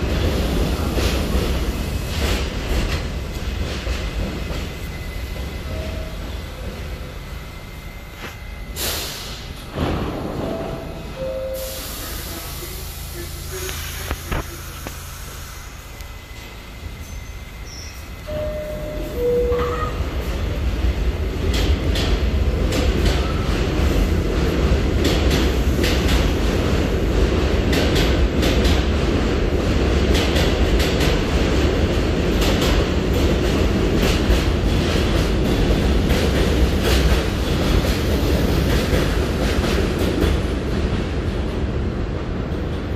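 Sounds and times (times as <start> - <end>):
subway train rumbling: 0.0 - 42.9.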